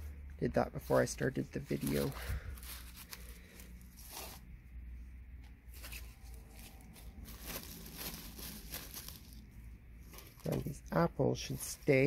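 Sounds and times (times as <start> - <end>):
low background hum: 0.0 - 12.0
plastic bags rustling: 0.8 - 4.5, 5.6 - 12.0.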